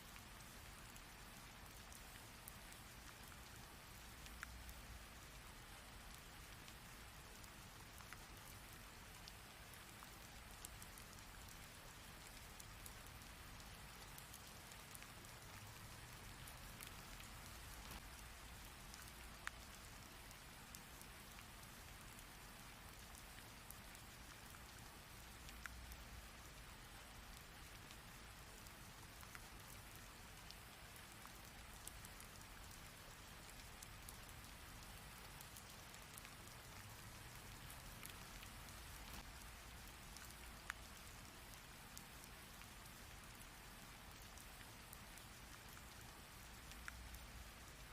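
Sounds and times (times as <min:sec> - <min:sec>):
faint rain falling: 0:00.0 - 0:47.9.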